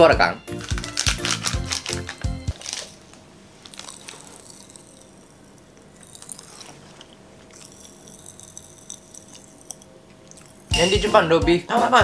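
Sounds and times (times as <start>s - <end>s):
popping candy crackling: 0.0s - 10.8s.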